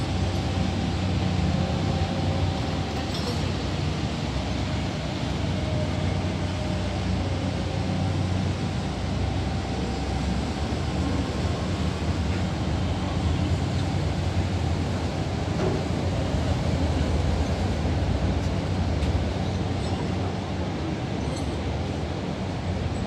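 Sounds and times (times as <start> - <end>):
ferry engines rumbling: 0.0 - 23.0.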